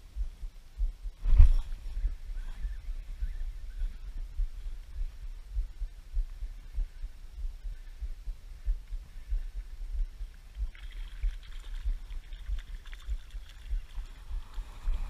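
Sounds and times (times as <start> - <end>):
low thumps on microphone: 0.0 - 15.0.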